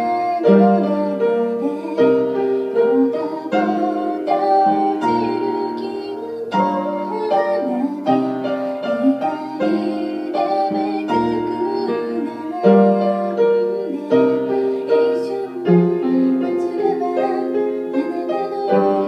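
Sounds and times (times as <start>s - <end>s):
grand piano playing slow song: 0.0s - 19.0s
woman singing: 0.0s - 19.0s.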